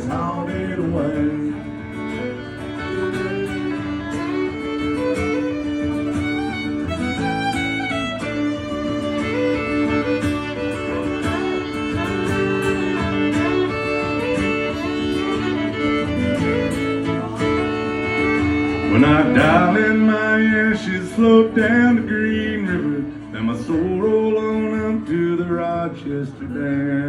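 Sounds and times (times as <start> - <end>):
fiddle melody: 0.0 - 27.0
rhythm guitar: 0.0 - 27.0.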